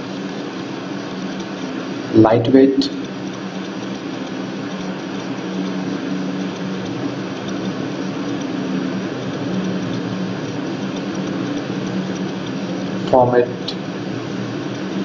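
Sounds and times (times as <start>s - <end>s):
droning hum and rushing hiss: 0.0s - 15.0s.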